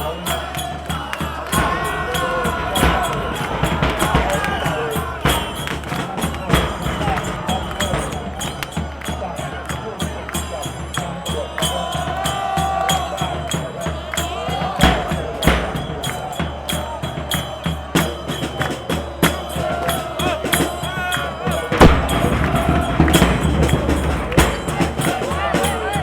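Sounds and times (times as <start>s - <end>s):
steady percussion beat: 0.0s - 26.0s.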